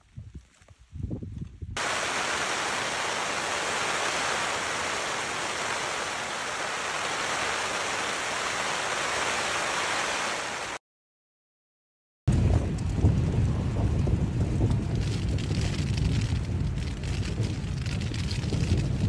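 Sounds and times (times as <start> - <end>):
heavy rain on tarp: 1.8 - 10.8, 12.3 - 19.0.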